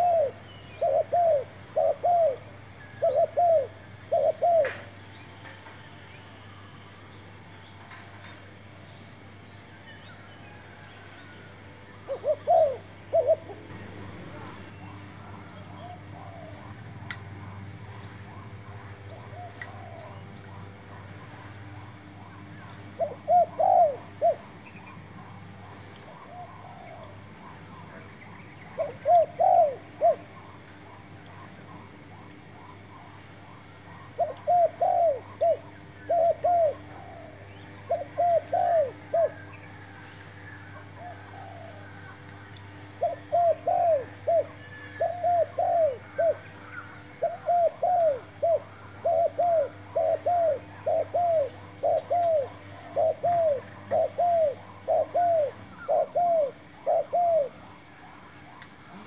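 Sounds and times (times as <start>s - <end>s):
doves cooing: 0.0s - 5.0s, 10.5s - 21.5s, 22.3s - 24.6s, 25.6s - 31.9s, 33.8s - 57.8s.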